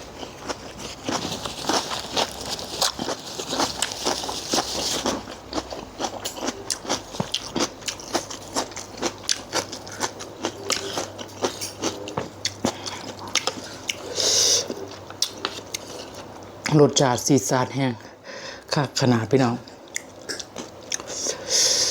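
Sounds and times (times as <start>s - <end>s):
wet chewing and crunching: 0.0s - 16.8s, 19.7s - 21.4s.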